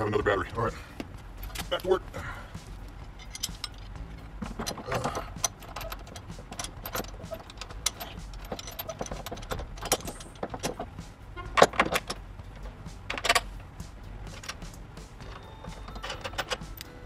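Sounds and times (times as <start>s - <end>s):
metal bolts clinking and rattling: 1.3s - 2.0s, 2.9s - 17.0s.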